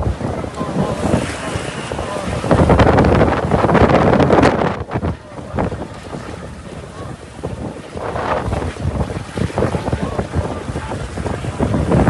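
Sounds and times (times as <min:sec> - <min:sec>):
wind gusting across microphone: 0:00.0 - 0:12.0.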